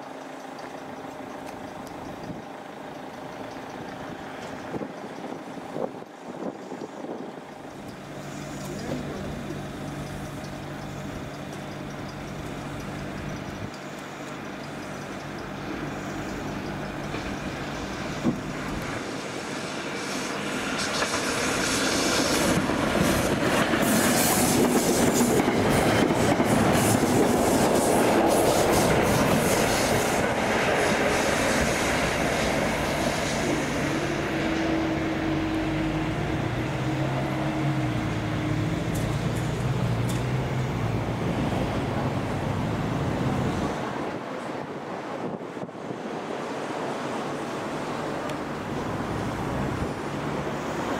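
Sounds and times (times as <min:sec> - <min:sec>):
wheels clattering over rail joints: 0:00.0 - 0:44.6
train passing: 0:00.0 - 0:50.9.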